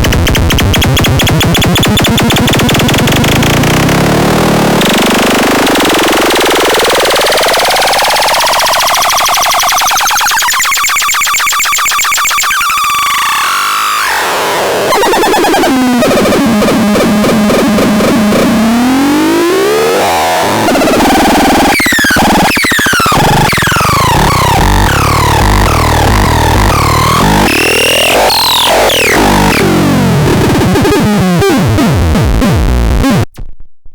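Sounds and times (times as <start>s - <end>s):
harsh buzzy synthesizer tones: 0.0s - 33.3s.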